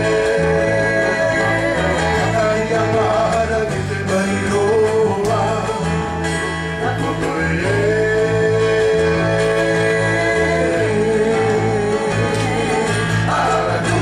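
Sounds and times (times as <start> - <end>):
person singing: 0.0 - 6.0, 6.7 - 14.0
bass line: 0.0 - 14.0
plucked guitar: 0.0 - 14.0.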